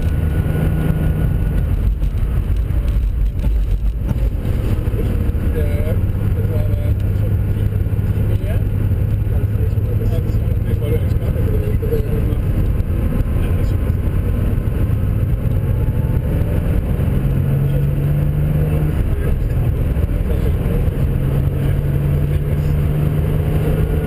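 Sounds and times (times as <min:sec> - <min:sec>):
racing car engine running: 0:00.0 - 0:24.0
road and wind noise: 0:00.0 - 0:24.0.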